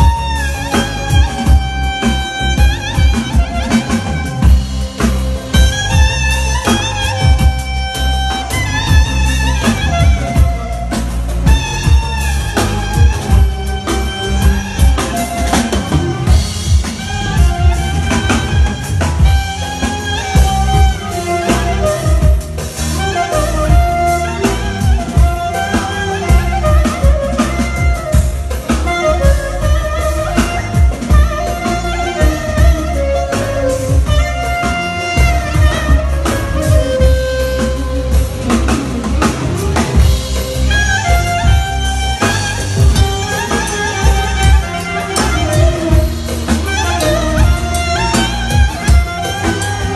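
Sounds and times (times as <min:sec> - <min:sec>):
clarinet melody: 0:00.0 - 0:49.9
drum kit beat: 0:00.0 - 0:49.9
heavy bass: 0:00.0 - 0:49.9
keyboard accompaniment: 0:00.0 - 0:49.9.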